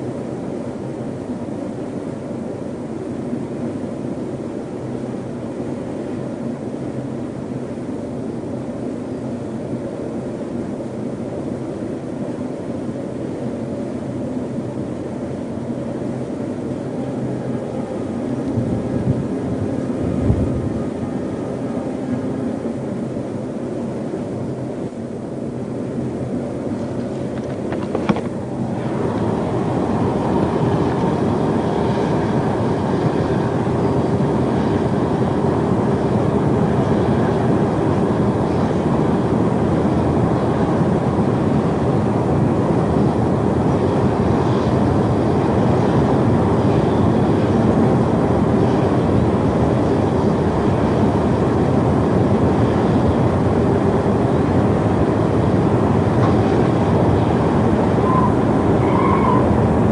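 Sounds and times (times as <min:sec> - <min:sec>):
storm wind blowing hard: 0:00.0 - 0:59.9.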